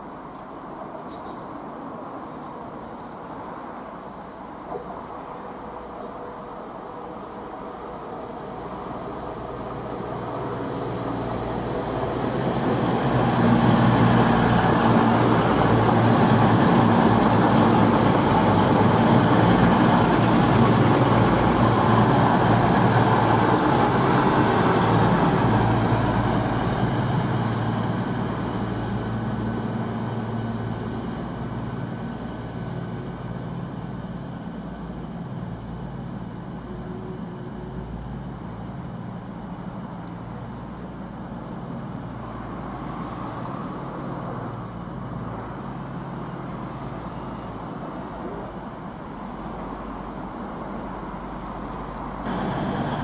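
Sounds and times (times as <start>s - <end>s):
diesel train passing: 1.5s - 53.0s.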